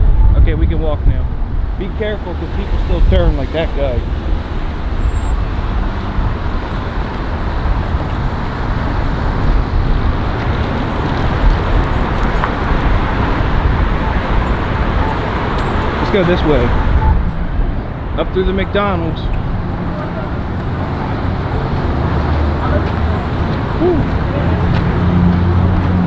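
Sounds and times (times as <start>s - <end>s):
road traffic rumbling hiss: 1.4s - 26.0s.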